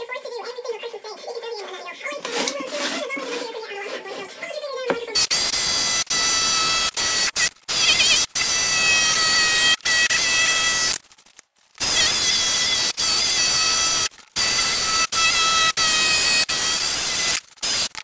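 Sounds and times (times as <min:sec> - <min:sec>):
jigsaw cutting board: 0:02.1 - 0:11.0, 0:11.8 - 0:18.0.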